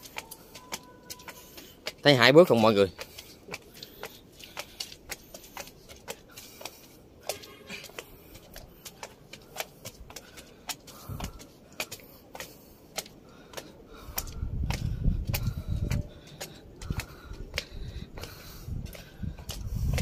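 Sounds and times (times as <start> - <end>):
footsteps on stone stairs: 0.0 - 20.0.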